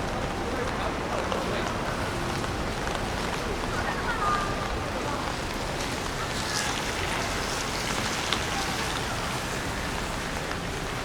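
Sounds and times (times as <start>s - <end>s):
faint voices: 0.0s - 11.0s
rain falling on street: 0.0s - 11.0s.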